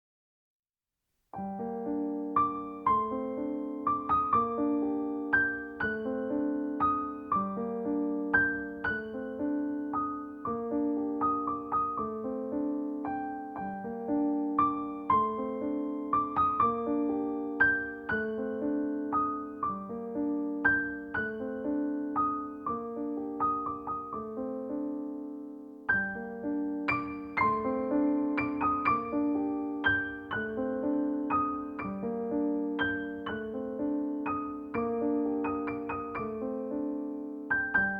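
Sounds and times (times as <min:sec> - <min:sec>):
gentle piano music: 0:01.3 - 0:37.9.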